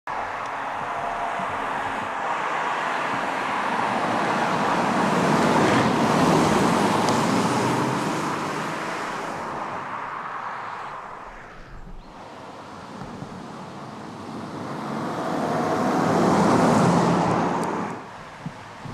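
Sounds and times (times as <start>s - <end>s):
car passing by: 0.1s - 18.9s.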